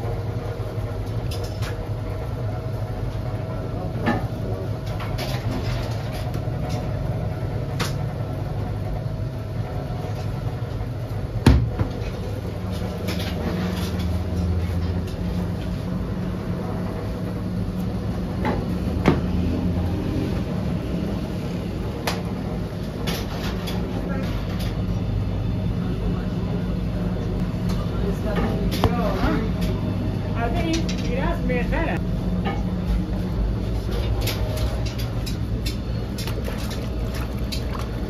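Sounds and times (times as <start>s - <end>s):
bakery equipment humming: 0.0s - 38.0s.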